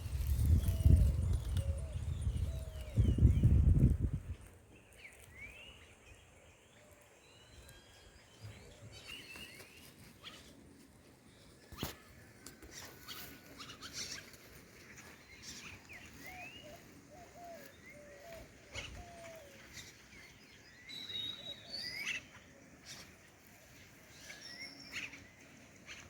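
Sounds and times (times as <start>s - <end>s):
wild birds chirping: 0.3s - 26.0s.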